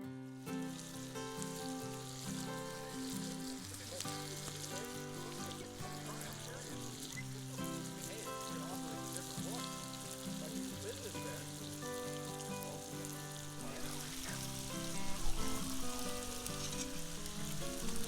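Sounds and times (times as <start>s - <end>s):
meat sizzling in a skillet: 0.2s - 18.0s.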